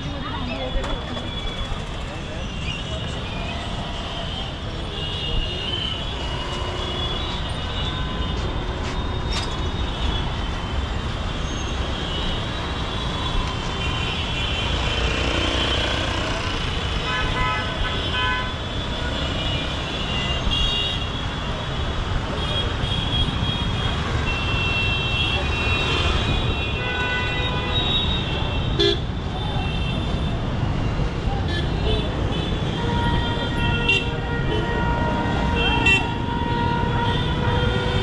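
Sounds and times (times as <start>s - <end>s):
scooters and cars passing: 0.0s - 4.9s, 5.8s - 20.5s, 21.2s - 38.0s.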